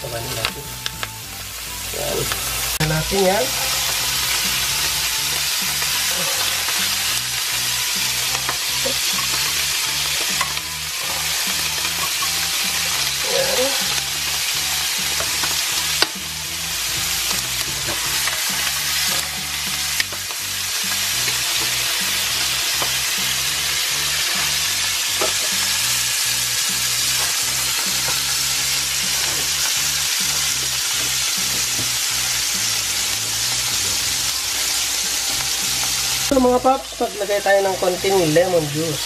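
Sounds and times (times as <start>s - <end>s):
food sizzling in frying pans: 0.0s - 39.0s.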